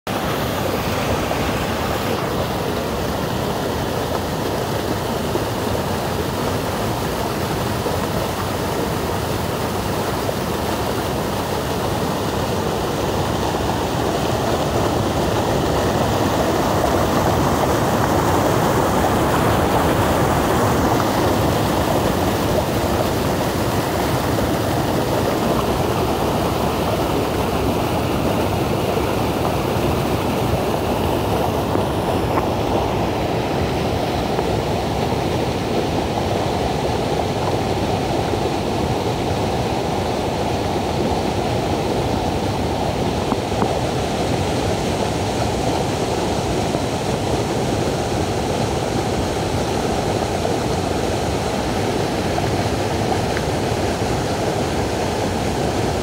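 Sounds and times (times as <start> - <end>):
river rapids rushing: 0.1 - 56.0.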